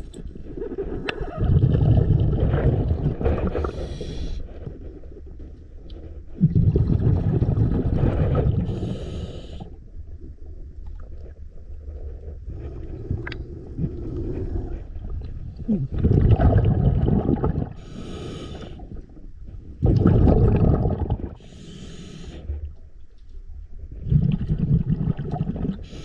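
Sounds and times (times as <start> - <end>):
exhaled bubbles rumbling: 0.0 - 21.6, 23.6 - 26.0.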